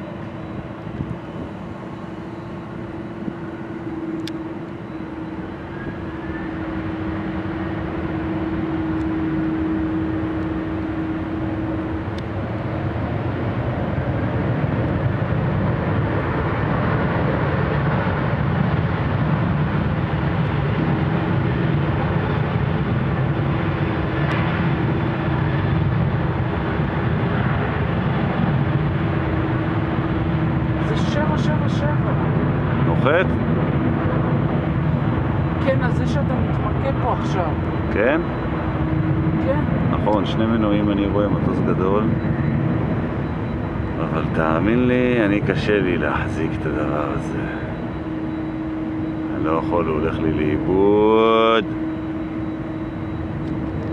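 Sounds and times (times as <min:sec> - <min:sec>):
jet airliner rumble: 0:00.0 - 0:53.9
steady hum: 0:00.0 - 0:53.9.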